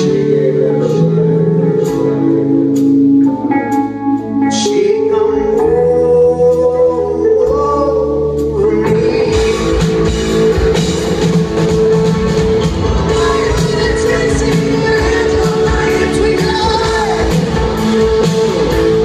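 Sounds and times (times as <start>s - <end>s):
person singing: 0.0s - 10.4s, 12.9s - 19.0s
electric guitar chords: 0.0s - 19.0s
rock band playing live: 0.0s - 19.0s.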